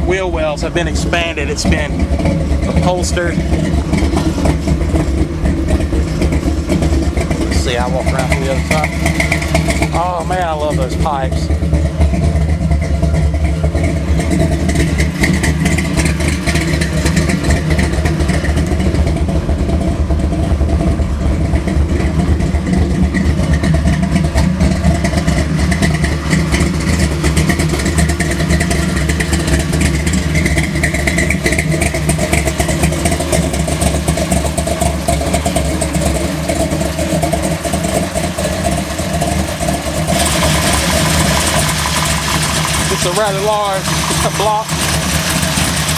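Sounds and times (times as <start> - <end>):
car engine running steadily: 0.0 - 45.9.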